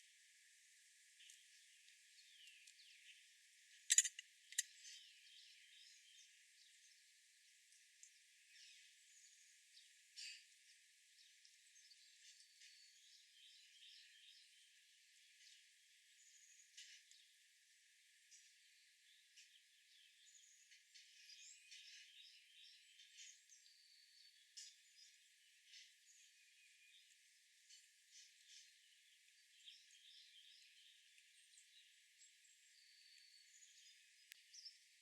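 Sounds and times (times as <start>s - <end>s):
small birds chirping: 1.0s - 35.0s.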